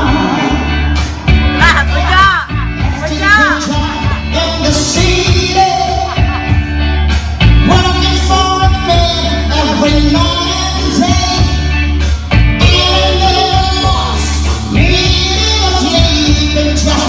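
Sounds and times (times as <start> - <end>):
pop music with singing: 0.0 - 17.0.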